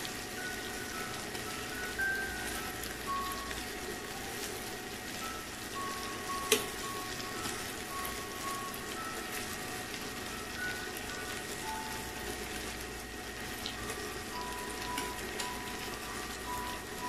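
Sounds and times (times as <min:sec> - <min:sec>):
shrimp sizzling in a frying pan: 0:00.0 - 0:17.0
soft music with chime-like notes: 0:00.0 - 0:17.0.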